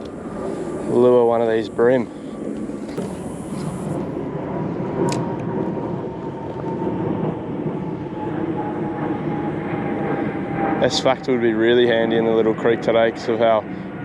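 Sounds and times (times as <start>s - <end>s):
faint high whine: 0.0s - 13.9s.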